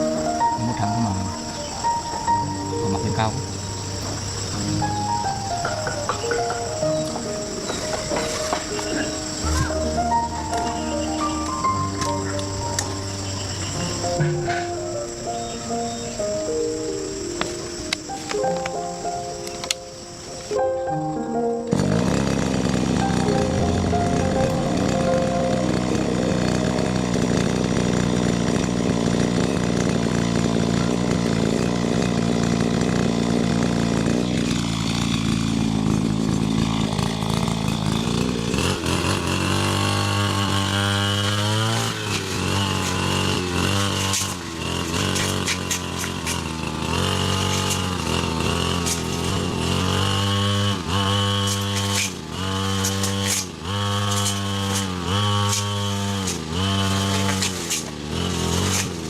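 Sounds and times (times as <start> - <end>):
small power tool engine running: 0.0 - 59.0.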